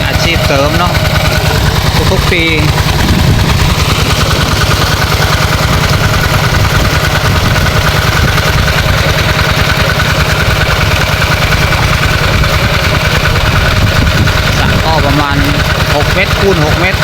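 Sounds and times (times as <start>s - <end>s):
engine-driven water pump running: 0.0s - 17.0s.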